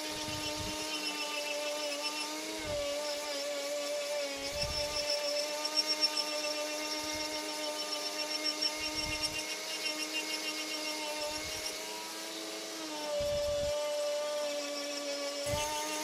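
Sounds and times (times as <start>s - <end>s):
rotary tool motor whine: 0.0s - 16.0s.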